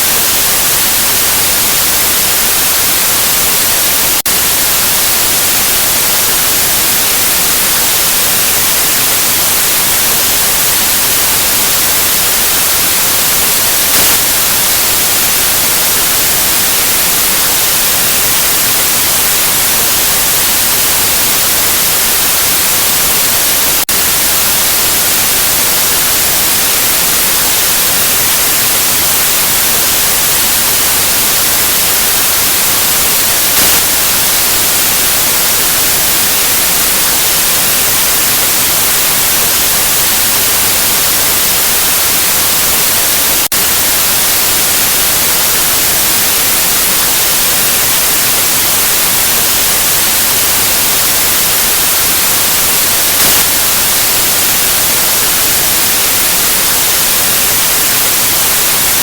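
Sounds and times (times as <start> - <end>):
loud white noise hiss: 0.0 - 59.0.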